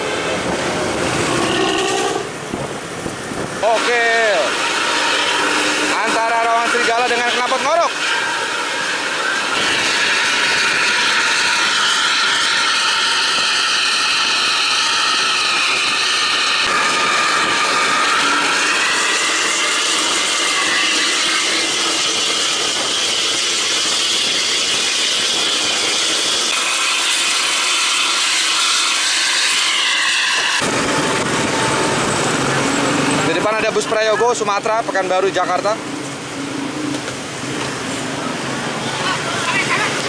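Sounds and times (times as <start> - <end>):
road and wind noise: 0.0 - 26.6, 29.5 - 40.0
bus exhaust whistling howl: 0.0 - 40.0.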